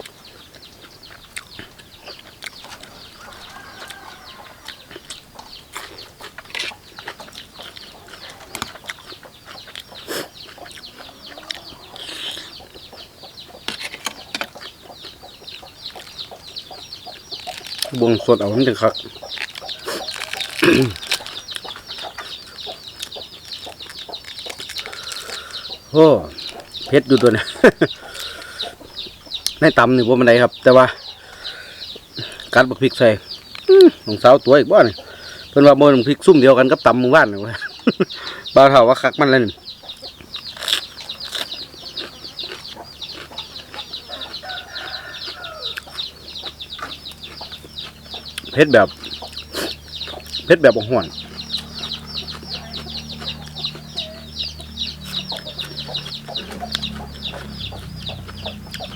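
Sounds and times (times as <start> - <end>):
crunchy chewing of vegetables: 0.0 - 29.8, 39.6 - 58.9
chickens peeping and clucking: 0.0 - 58.9.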